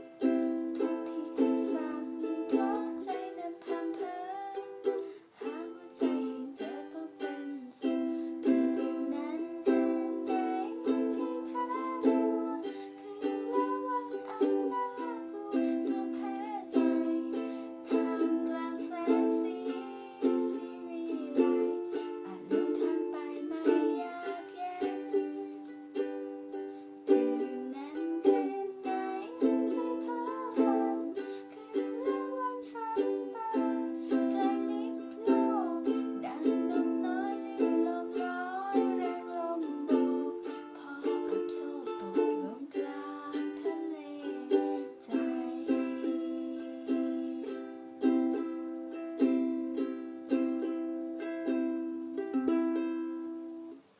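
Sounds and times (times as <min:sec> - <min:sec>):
ukulele strumming chords: 0:00.0 - 0:53.9.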